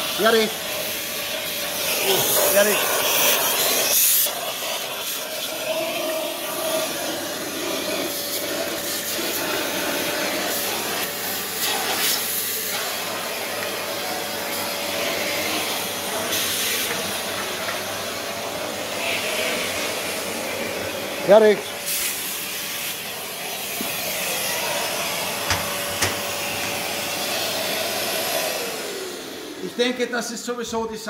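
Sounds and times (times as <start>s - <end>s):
dust extractor sucking air: 0.0s - 30.8s.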